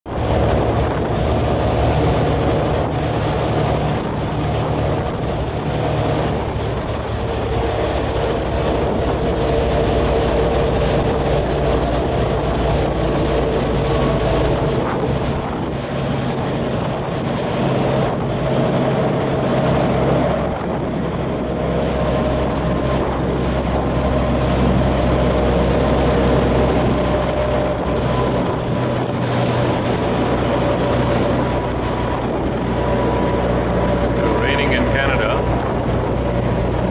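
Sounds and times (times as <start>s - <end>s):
motorboat engine running: 0.0s - 36.9s
wind on microphone: 0.0s - 36.9s.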